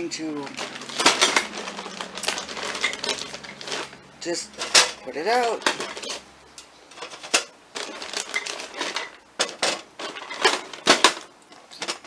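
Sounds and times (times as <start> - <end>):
plastic bag crinkling: 0.0 - 6.3, 6.9 - 12.0.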